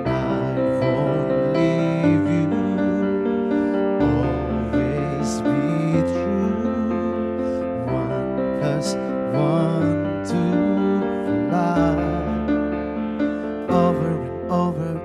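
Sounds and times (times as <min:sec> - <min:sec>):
keyboard piano chords: 0:00.0 - 0:15.0
man singing: 0:00.0 - 0:15.0.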